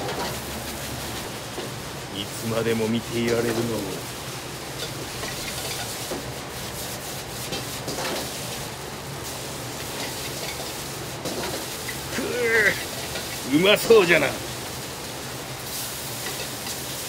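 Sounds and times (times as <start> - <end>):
rice sizzling: 0.0 - 17.0.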